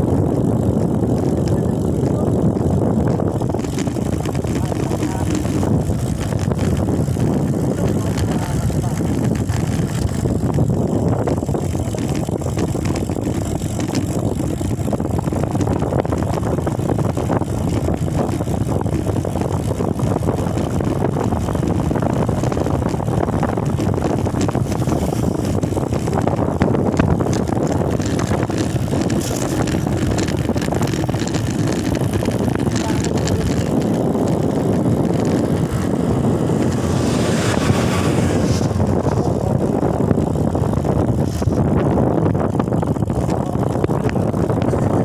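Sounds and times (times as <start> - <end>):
moving vehicle rumble: 0.0 - 45.0
wind on microphone: 0.0 - 45.0.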